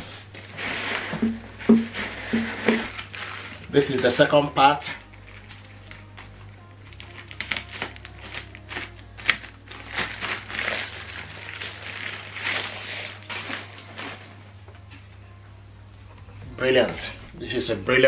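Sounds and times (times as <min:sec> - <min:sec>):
plastic wrapping crinkling: 0:00.1 - 0:14.6.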